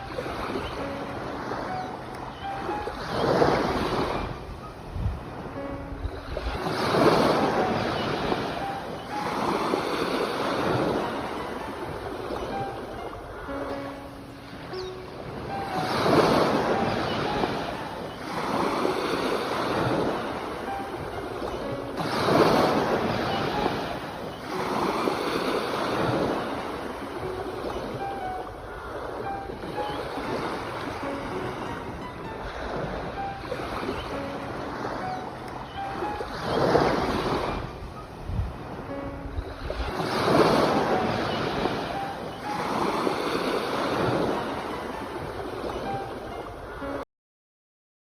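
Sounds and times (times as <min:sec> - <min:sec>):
ocean waves surging: 0:00.0 - 0:47.0.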